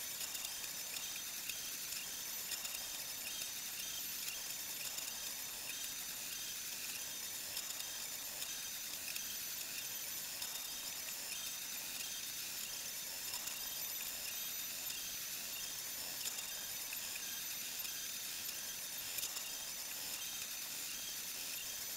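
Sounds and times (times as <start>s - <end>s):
stepper motors whining: 0.2s - 21.9s.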